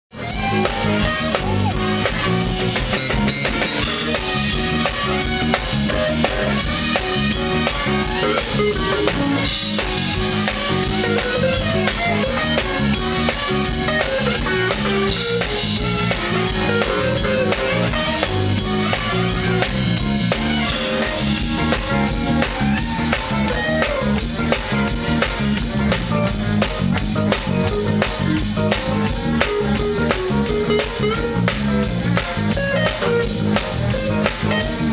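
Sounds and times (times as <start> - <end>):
drum kit beat: 0.1 - 34.9
live blues band playing: 0.1 - 34.9.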